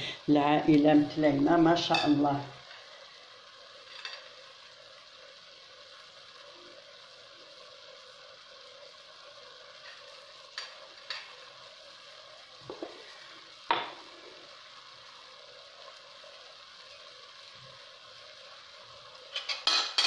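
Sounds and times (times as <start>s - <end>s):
onion frying in oil: 0.0s - 20.0s.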